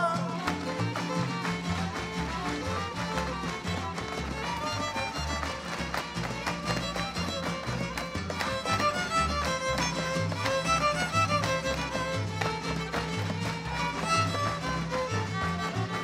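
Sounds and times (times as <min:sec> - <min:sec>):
violin melody: 0:00.0 - 0:16.0
walking bass line: 0:00.0 - 0:16.0.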